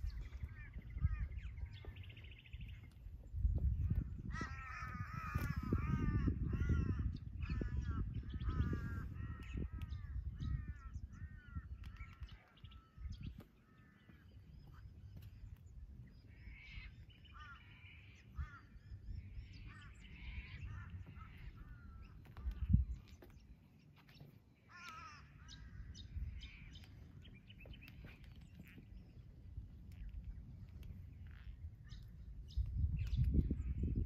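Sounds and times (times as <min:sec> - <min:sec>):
bird calling: 0:00.0 - 0:34.0
wind rumble on microphone: 0:00.0 - 0:34.0.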